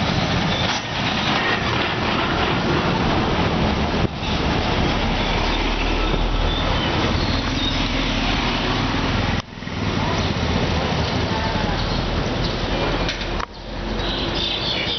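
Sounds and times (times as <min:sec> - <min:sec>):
bus engine rumbling: 0:00.0 - 0:14.9
road noise of passing vehicles: 0:00.0 - 0:14.9.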